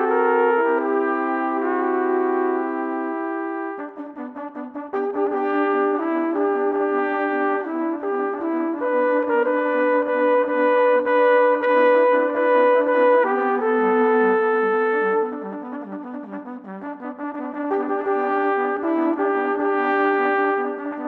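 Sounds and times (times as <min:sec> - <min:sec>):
trumpets playing sustained chords: 0:00.0 - 0:21.0.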